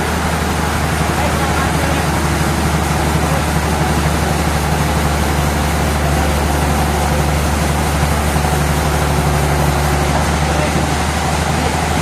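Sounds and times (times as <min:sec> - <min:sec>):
sawmill machinery drone: 0:00.0 - 0:12.0.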